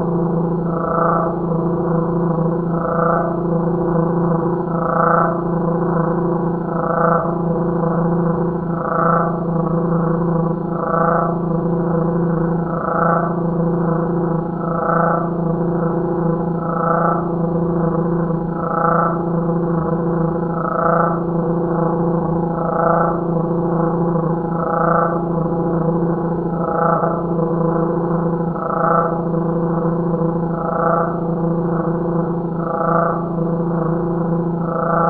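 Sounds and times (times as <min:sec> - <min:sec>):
slowed crickets low hum: 0:00.0 - 0:35.0.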